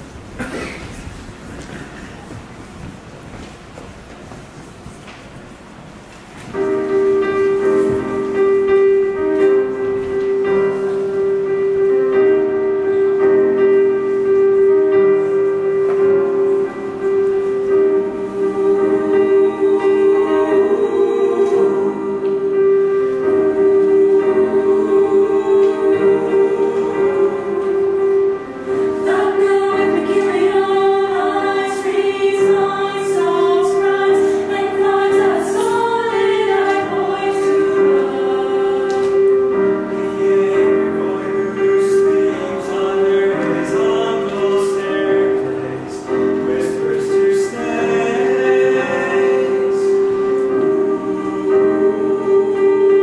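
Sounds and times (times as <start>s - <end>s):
youth choir singing in harmony: 6.5s - 53.0s.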